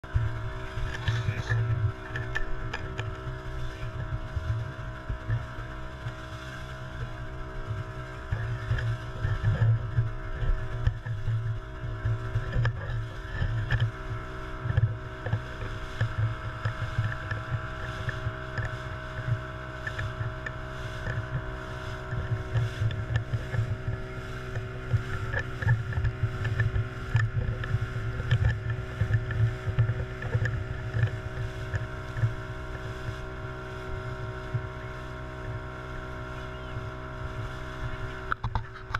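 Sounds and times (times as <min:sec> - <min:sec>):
boat motor running: 0:00.0 - 0:38.9
hull slapping through choppy water: 0:00.0 - 0:38.9.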